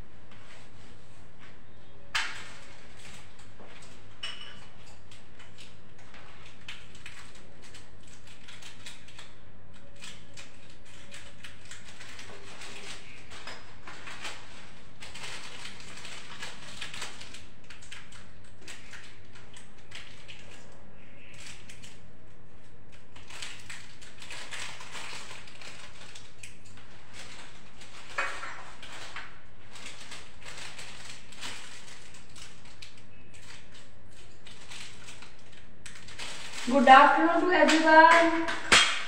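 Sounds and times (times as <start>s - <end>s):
plastic bag crinkling: 2.2s - 39.0s.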